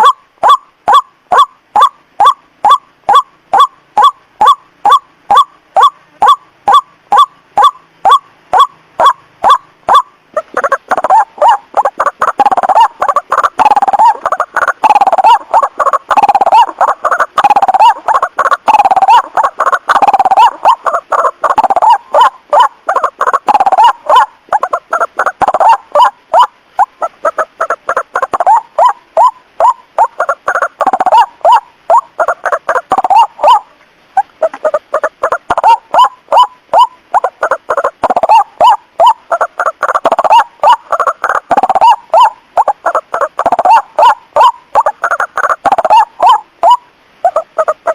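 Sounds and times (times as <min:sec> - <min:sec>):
chorus of birds calling: 0:00.0 - 0:47.9
waterhen calling: 0:00.0 - 0:47.9.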